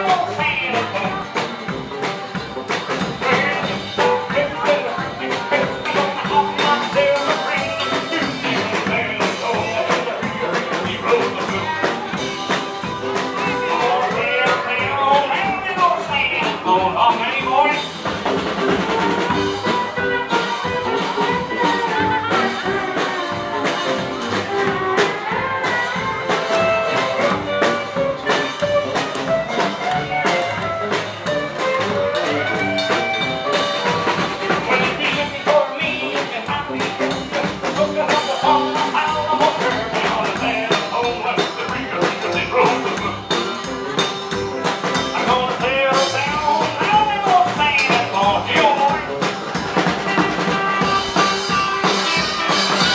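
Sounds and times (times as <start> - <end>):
electric guitar: 0.0 - 52.9
live rockabilly band: 0.0 - 52.9
steady drum beat: 0.0 - 52.9.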